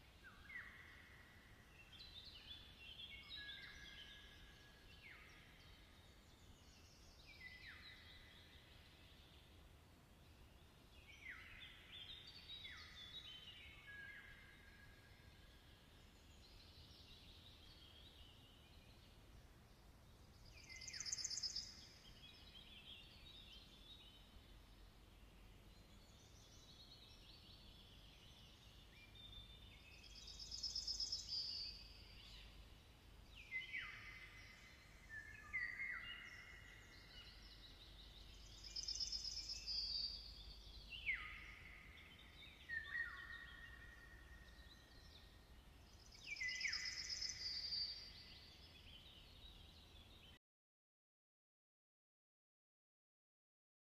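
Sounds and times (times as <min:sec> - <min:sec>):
birdsong with trill and whistled notes: 0:00.2 - 0:09.5, 0:10.5 - 0:19.1, 0:20.3 - 0:50.4.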